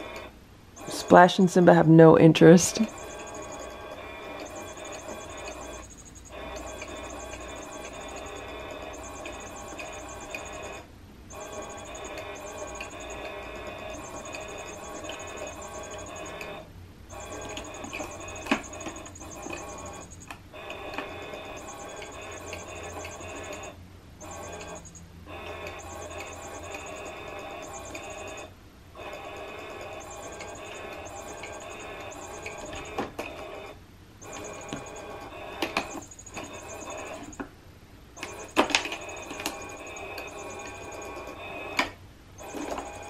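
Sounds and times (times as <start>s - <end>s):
electronic cat toy whirring: 0.0s - 37.5s, 38.1s - 43.0s.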